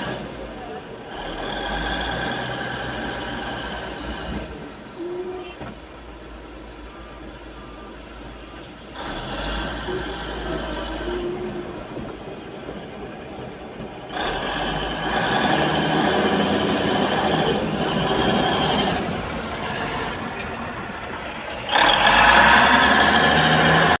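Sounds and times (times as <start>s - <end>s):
heavy diesel engines under load: 0.0s - 24.0s.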